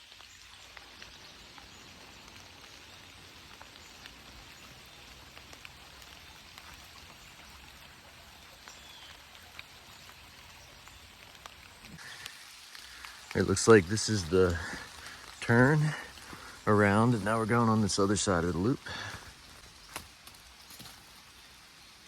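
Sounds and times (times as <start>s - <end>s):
rain falling: 0.0s - 22.0s
raindrops ticking: 0.0s - 22.0s.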